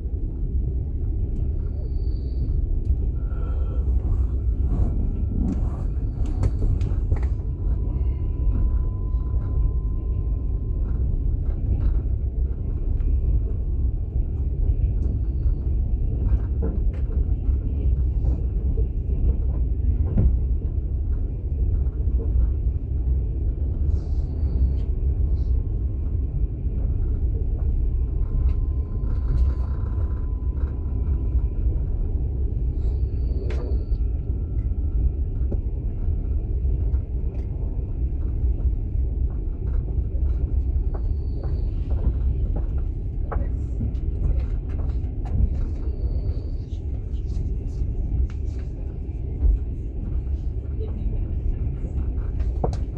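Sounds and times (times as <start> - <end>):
moving train rumble: 0.0 - 52.9.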